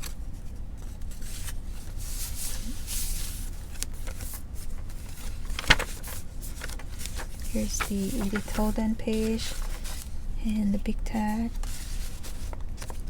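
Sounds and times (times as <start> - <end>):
paper pages rustling: 0.0 - 10.3, 11.1 - 13.0.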